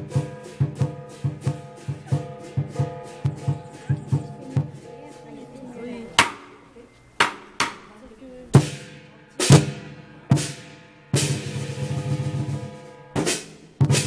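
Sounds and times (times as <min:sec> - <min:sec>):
cymbal crashes: 0:00.0 - 0:14.0
drum beats: 0:00.0 - 0:14.0.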